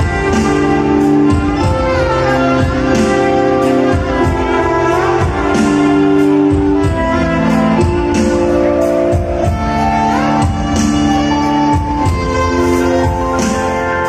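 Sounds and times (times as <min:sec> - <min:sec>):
keyboard backing with steady beat: 0:00.0 - 0:14.0
violin melody: 0:00.0 - 0:14.0.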